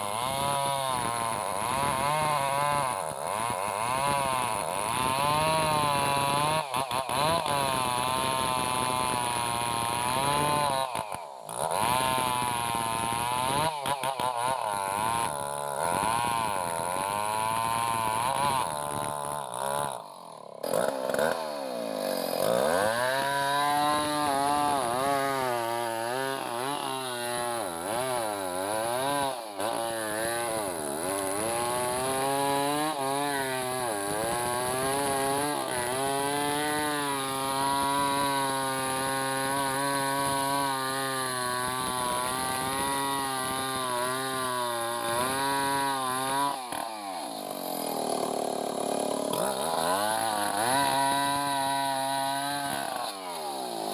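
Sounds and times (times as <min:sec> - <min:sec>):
chainsaw cutting logs: 0:00.0 - 0:53.9.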